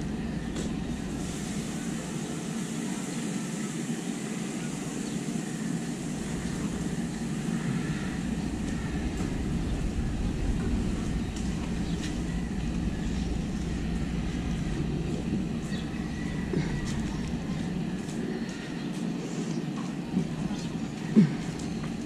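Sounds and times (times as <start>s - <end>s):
low rumble of vehicles: 0.0s - 22.0s.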